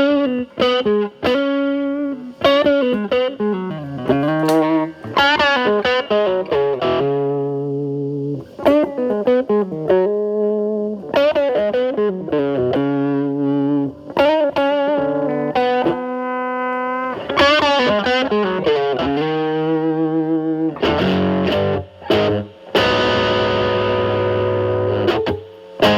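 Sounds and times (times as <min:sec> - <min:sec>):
distorted electric guitar lead: 0:00.0 - 0:25.9
distorted guitar chords: 0:00.0 - 0:25.9.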